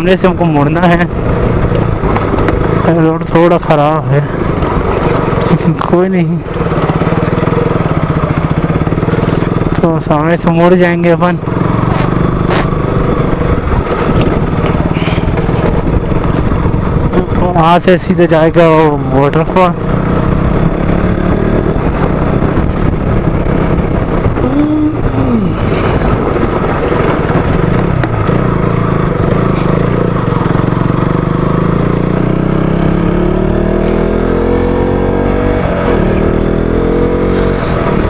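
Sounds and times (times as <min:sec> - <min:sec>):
wind rushing over microphone: 0:00.0 - 0:09.9, 0:10.5 - 0:38.0
motorcycle engine running: 0:00.0 - 0:38.0.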